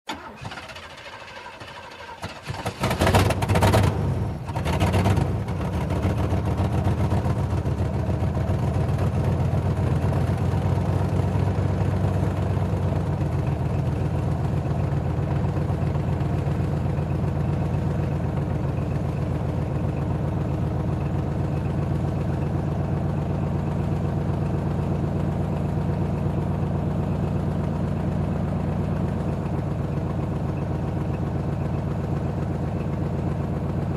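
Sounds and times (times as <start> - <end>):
car engine cranking and idling: 0.1 - 33.9.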